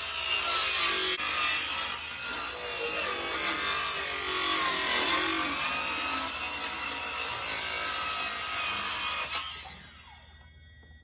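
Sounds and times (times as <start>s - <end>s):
jigsaw cutting wood sheet: 0.0s - 10.1s.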